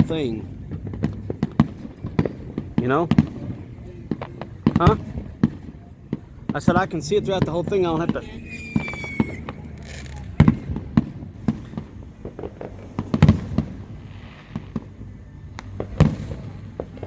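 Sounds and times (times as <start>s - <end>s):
distant fireworks bangs: 0.0s - 17.0s.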